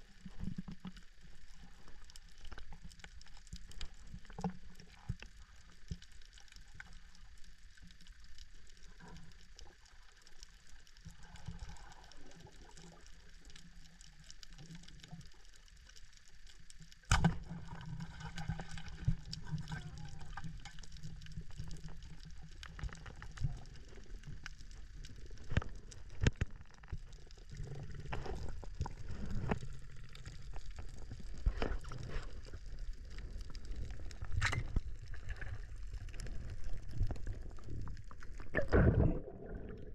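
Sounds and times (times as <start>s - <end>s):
underwater clicks and crackle: 0.0s - 39.9s
underwater rush of water: 0.0s - 39.9s.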